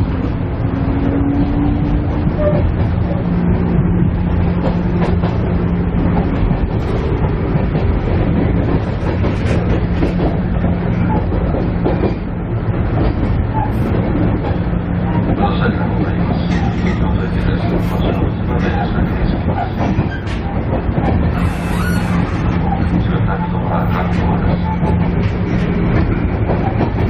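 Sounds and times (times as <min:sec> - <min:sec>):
railcar diesel engine drone: 0:00.0 - 0:27.0
wheels clicking on track: 0:00.0 - 0:27.0.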